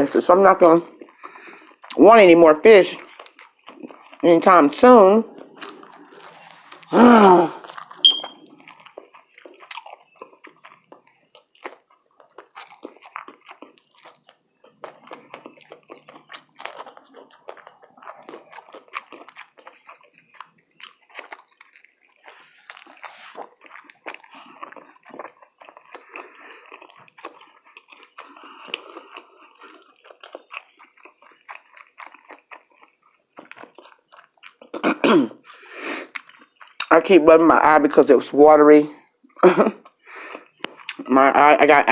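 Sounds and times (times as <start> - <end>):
chewing food: 0.0 - 41.9
wet mouth clicks: 0.9 - 2.0, 2.9 - 4.3, 5.2 - 37.0, 39.2 - 41.1
small crunches: 2.9 - 36.9, 39.0 - 41.1.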